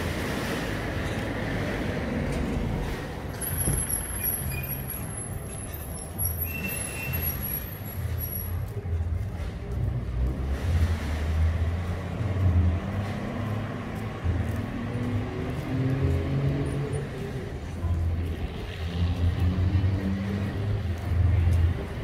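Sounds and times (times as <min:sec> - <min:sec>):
traffic passing: 0:00.0 - 0:22.0.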